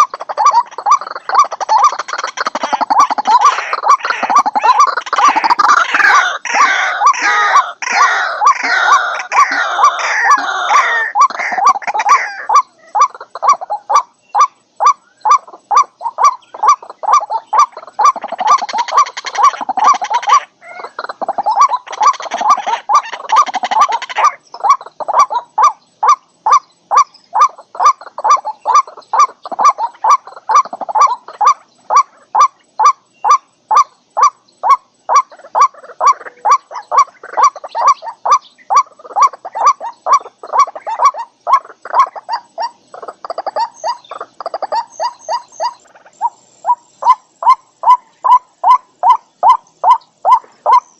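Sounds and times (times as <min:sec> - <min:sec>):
waterhen calling: 0:00.0 - 0:50.9.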